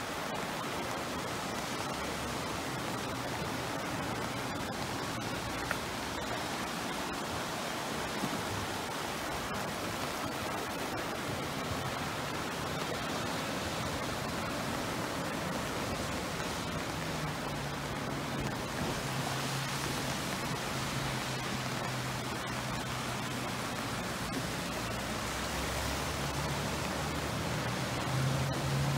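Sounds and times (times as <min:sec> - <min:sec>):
river rushing: 0:00.0 - 0:28.9.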